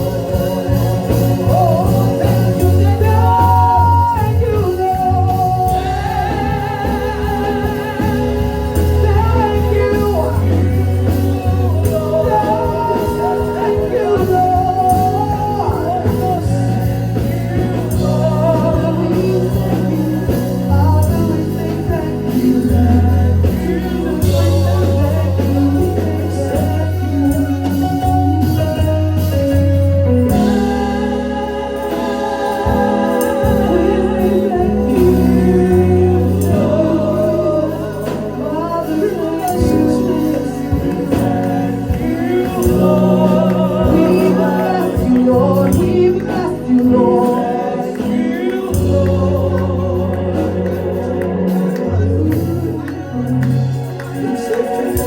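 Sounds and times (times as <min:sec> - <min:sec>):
gospel singing over a band: 0:00.0 - 0:55.0.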